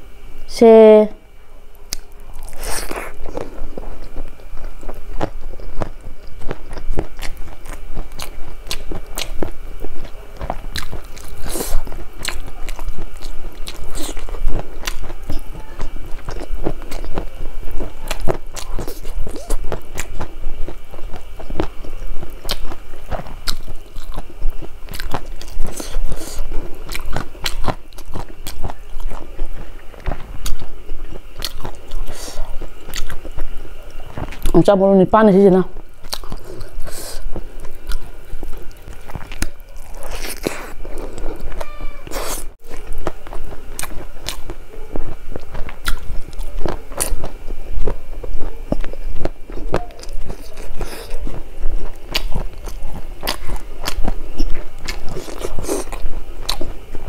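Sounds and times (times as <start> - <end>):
person chewing and crunching food: 1.7 - 57.0.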